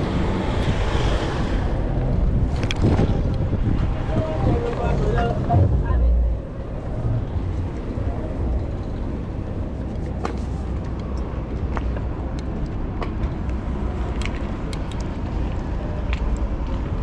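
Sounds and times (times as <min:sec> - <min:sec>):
car traffic: 0:00.0 - 0:17.0
wind rumbling on microphone: 0:00.0 - 0:17.0.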